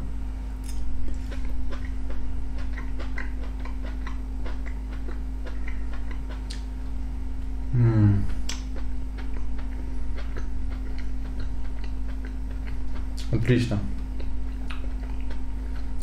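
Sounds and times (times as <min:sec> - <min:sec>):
low electrical hum: 0:00.0 - 0:16.0
person chewing with mouth clicks: 0:00.6 - 0:16.0.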